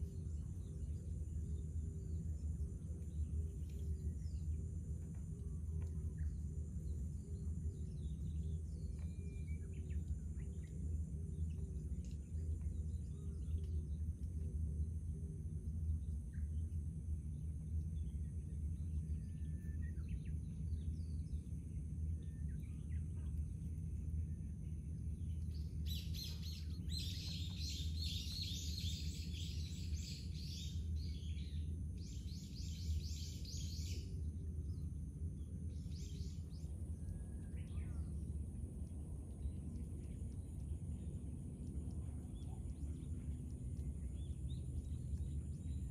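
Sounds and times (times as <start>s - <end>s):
low outdoor rumble: 0.0s - 45.9s.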